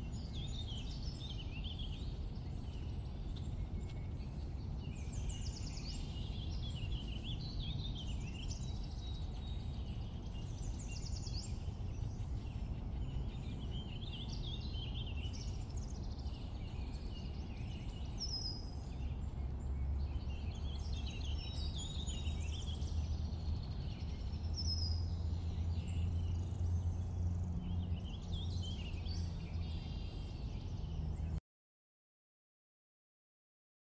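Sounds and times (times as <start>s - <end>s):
small birds chirping: 0.0s - 31.4s
steady low rumble: 0.0s - 31.4s.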